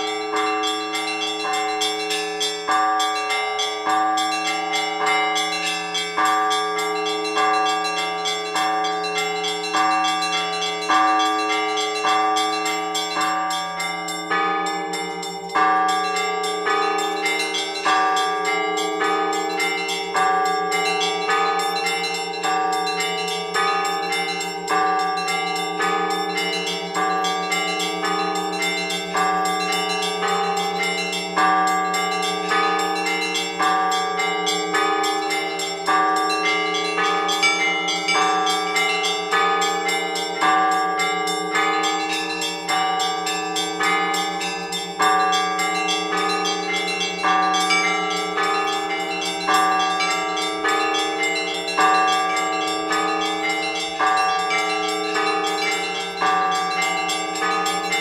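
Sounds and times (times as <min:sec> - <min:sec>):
low hum of large bell: 0:00.0 - 0:58.0
small church bells ringing: 0:00.0 - 0:58.0.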